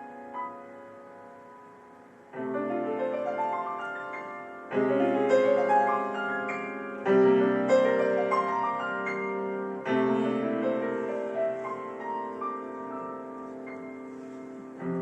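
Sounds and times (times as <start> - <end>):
solo piano playing: 0.0 - 15.0.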